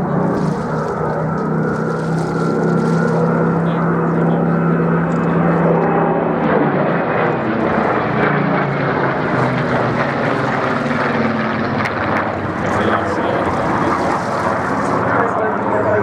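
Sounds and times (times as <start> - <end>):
propeller plane engine flying past: 0.0 - 16.0.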